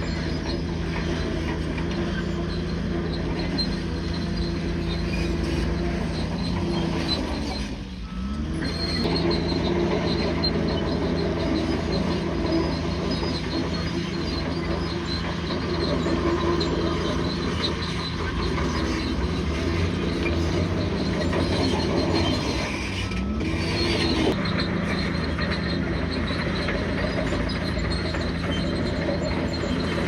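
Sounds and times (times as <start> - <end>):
bulldozer diesel engine: 0.0 - 30.0.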